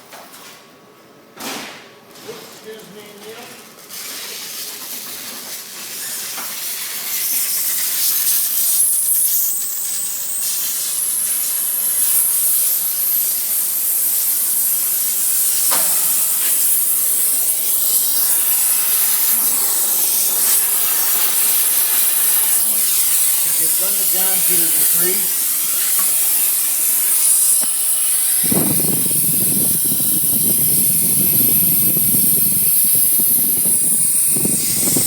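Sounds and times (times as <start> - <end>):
metalworking torch hissing: 5.9 - 35.0.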